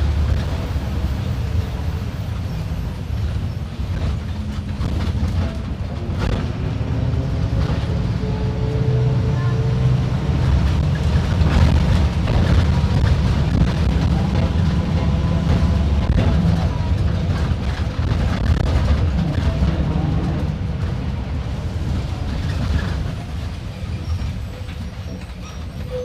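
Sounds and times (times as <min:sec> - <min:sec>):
bus diesel engine rumbling: 0:00.0 - 0:26.0.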